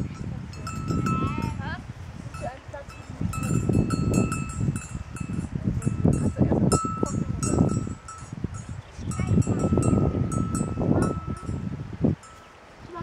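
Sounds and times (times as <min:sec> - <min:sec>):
cowbell clanking: 0:00.0 - 0:01.7, 0:02.4 - 0:11.6
wind rumble on microphone: 0:00.0 - 0:13.0.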